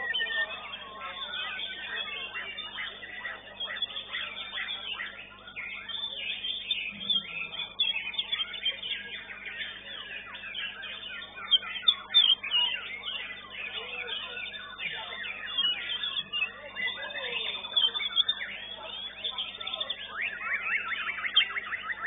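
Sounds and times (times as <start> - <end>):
songbirds singing: 0.0 - 22.0.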